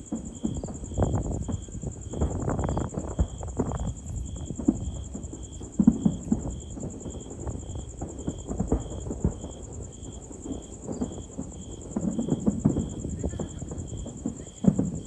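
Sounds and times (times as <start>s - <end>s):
fireworks popping and thudding: 0.0s - 15.0s.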